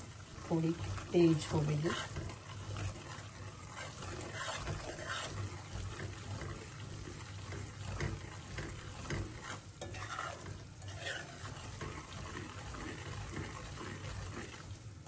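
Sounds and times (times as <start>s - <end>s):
low frying sizzle: 0.0s - 15.0s
spatula scraping metal pan: 0.5s - 14.7s.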